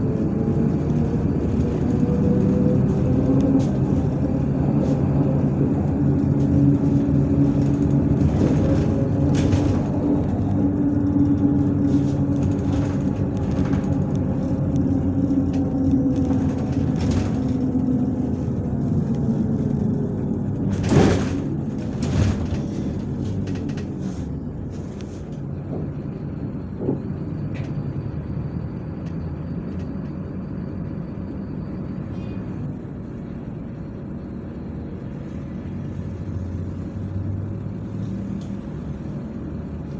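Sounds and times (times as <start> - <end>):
bus engine running: 0.0 - 39.9
road rumble: 0.0 - 39.9.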